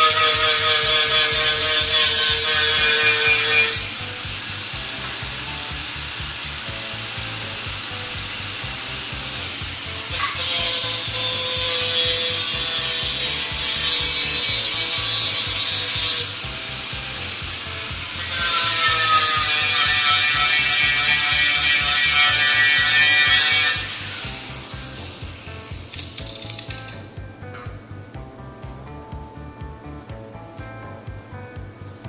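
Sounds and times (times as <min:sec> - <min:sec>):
power tool rasping on steel: 0:00.0 - 0:27.0
background music: 0:00.0 - 0:32.0.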